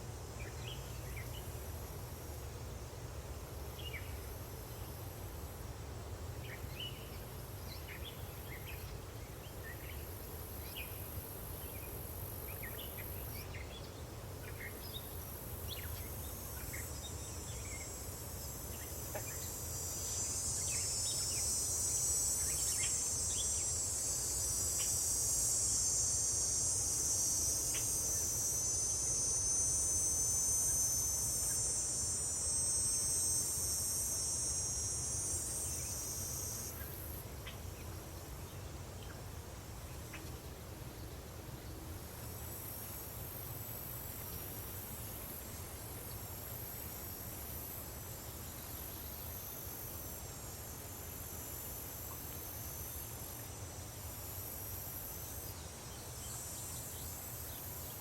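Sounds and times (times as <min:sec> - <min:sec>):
cicadas buzzing: 0:00.0 - 0:58.0
crickets chirping: 0:00.0 - 0:58.0.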